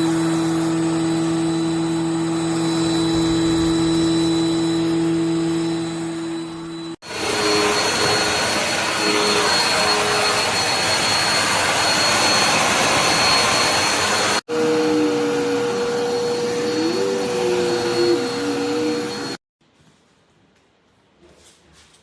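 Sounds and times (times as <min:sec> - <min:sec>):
vacuum cleaner running: 0:00.0 - 0:19.4.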